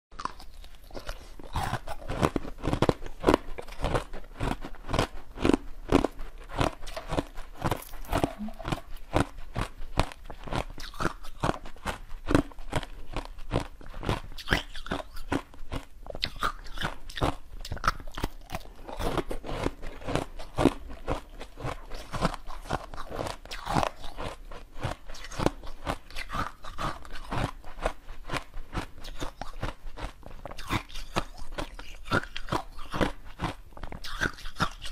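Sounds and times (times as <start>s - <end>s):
teeth crunching ice: 0.1s - 34.9s.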